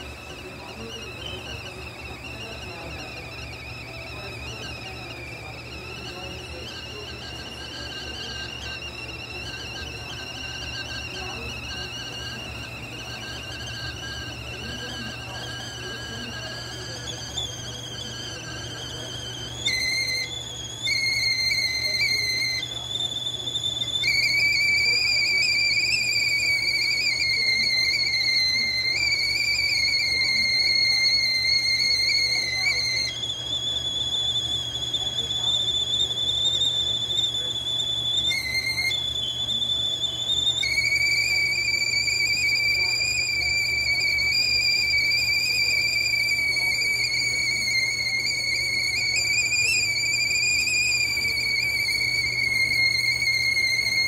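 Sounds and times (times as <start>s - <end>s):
kettle whistling: 0.0s - 54.0s.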